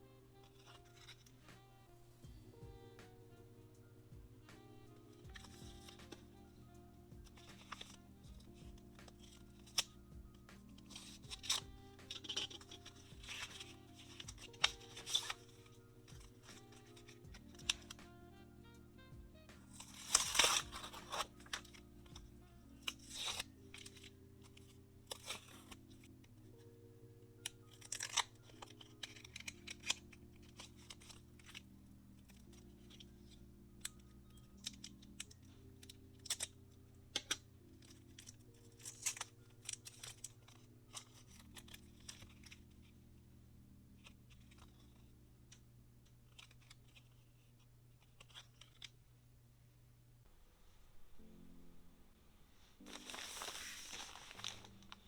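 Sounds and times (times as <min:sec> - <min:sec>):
packaging crinkling and tearing: 0:00.0 - 0:03.3, 0:04.4 - 0:26.7, 0:27.4 - 0:42.9, 0:46.2 - 0:49.0, 0:52.8 - 0:55.0
soft background music: 0:00.0 - 0:49.4, 0:50.1 - 0:55.0.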